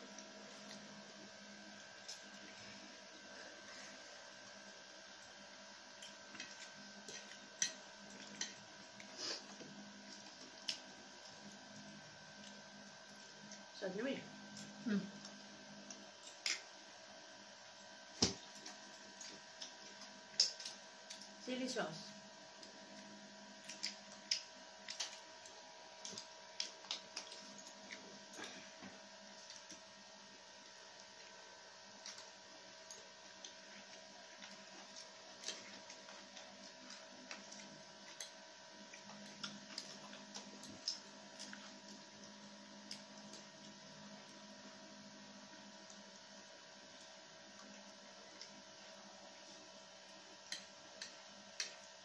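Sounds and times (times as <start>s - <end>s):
faint mains hum: 0.0s - 52.0s.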